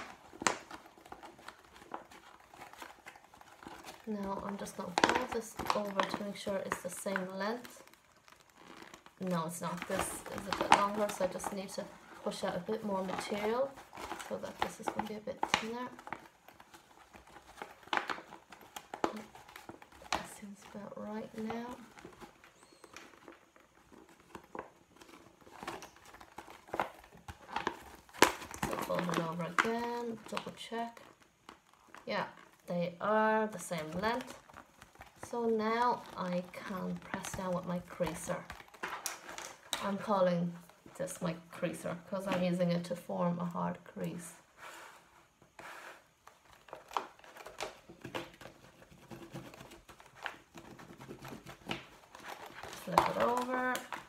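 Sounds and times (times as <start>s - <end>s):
plastic bag crinkling: 0.0s - 43.1s, 45.4s - 54.0s.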